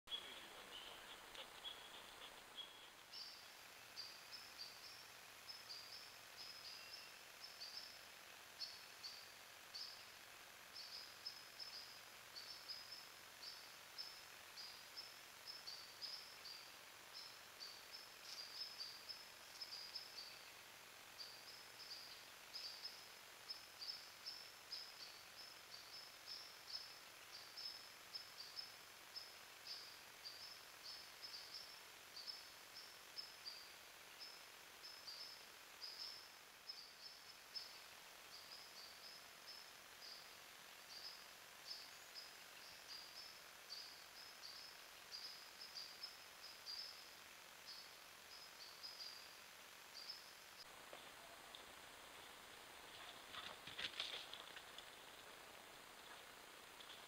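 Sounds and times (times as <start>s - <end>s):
quiet woodland background: 0.0s - 57.0s
faint high bird chirps: 0.1s - 8.0s, 10.7s - 20.6s, 21.2s - 50.4s.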